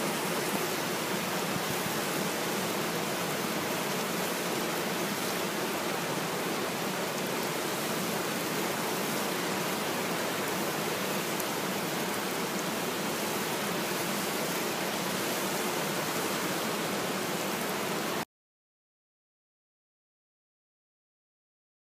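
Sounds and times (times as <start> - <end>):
flowing water rushing: 0.0 - 18.2.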